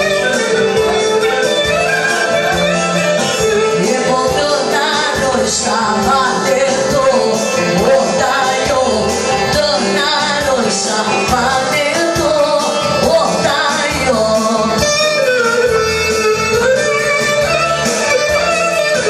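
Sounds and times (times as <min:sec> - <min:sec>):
dance band with steady beat: 0:00.0 - 0:19.0
person singing: 0:00.0 - 0:19.0.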